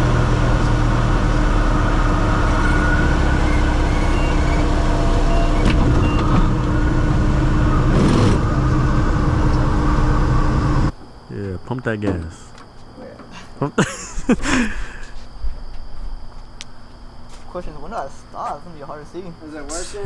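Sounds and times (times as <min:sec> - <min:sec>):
airplane engine drone: 0:00.0 - 0:20.0.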